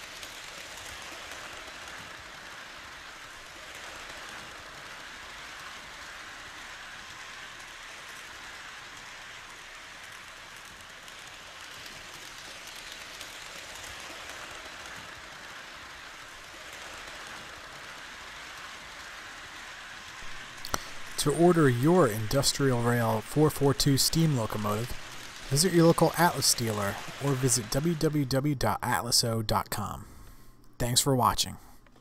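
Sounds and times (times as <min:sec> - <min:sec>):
model train wheels rolling: 0:00.0 - 0:30.0.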